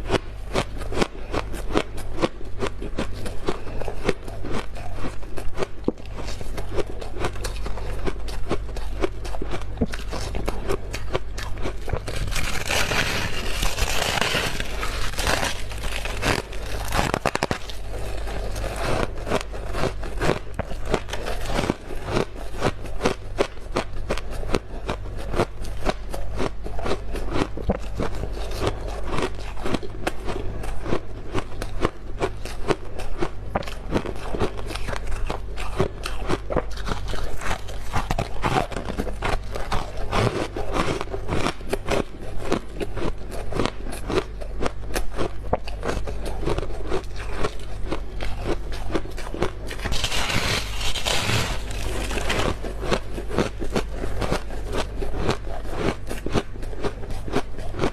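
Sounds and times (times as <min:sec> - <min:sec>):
frost crunching while chewed: 0:00.0 - 0:57.9
steady low hum: 0:00.0 - 0:57.9.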